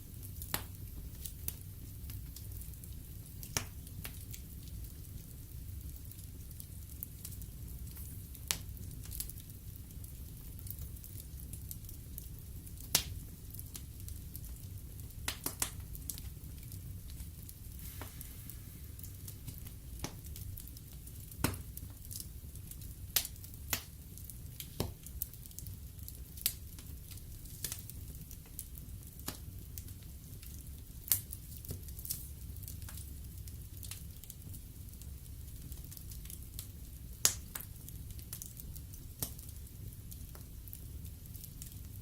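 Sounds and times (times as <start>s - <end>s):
low rumble of flames: 0.0s - 42.0s
wood fire crackling and popping: 0.0s - 42.0s.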